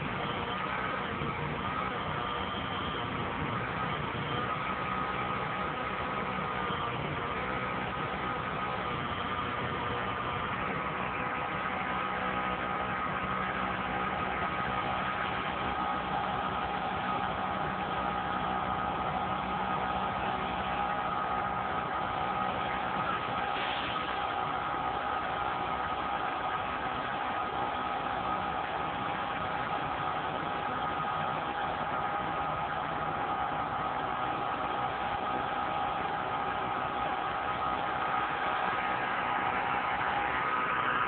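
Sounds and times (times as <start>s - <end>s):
hydraulic lift whine: 0.0s - 41.0s
truck engine running: 0.0s - 41.0s.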